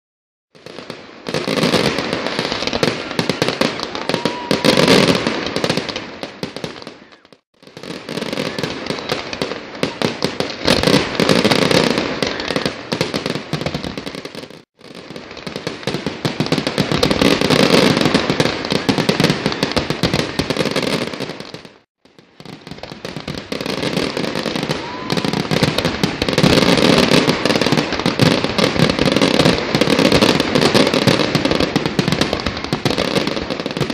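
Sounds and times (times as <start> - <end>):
fireworks bangs and crackling: 0.5 - 33.9.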